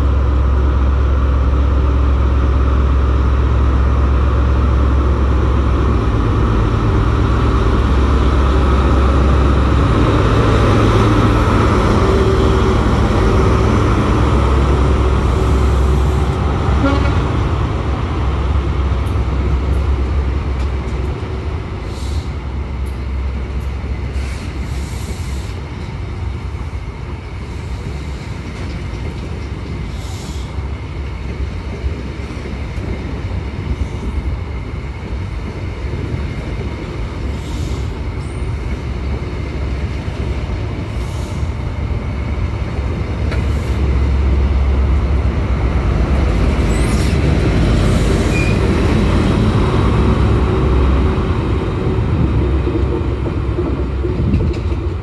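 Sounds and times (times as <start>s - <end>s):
diesel train engine accelerating: 0.0s - 55.0s
train coaches rolling past: 0.0s - 55.0s.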